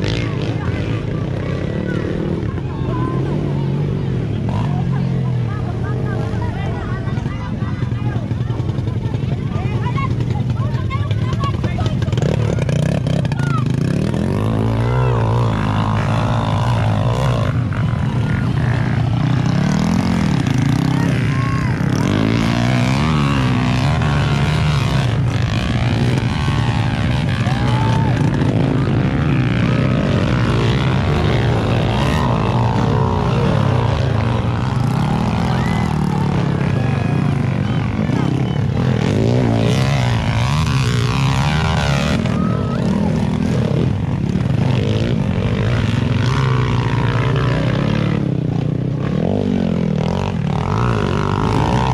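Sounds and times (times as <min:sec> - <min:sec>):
dirt bike engines revving: 0:00.0 - 0:51.9.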